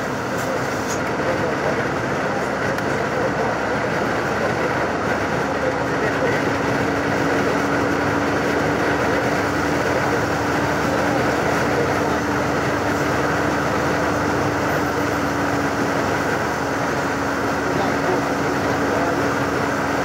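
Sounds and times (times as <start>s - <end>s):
coach engine and road noise: 0.0s - 20.0s.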